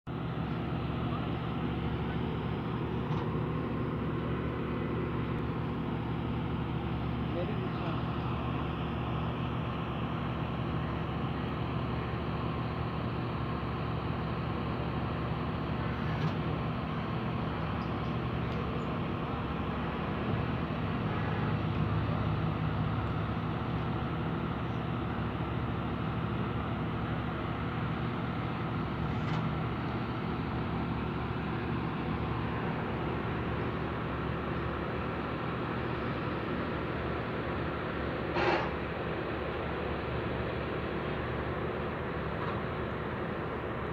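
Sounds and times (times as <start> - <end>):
diesel engine running: 0.1 - 43.9.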